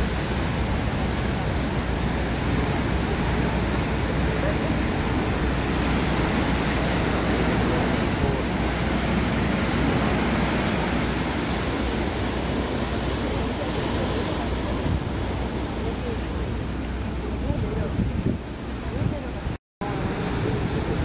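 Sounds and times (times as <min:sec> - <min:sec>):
ocean surf rushing: 0:00.0 - 0:21.0
wind on microphone: 0:00.0 - 0:21.0.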